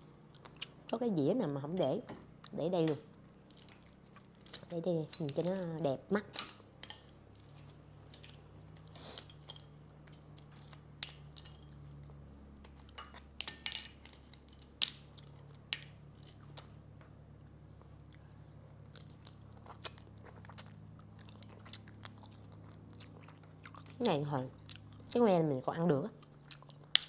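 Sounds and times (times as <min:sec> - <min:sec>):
chewing: 0:00.0 - 0:01.0, 0:03.4 - 0:05.6, 0:06.3 - 0:25.2, 0:26.2 - 0:27.0.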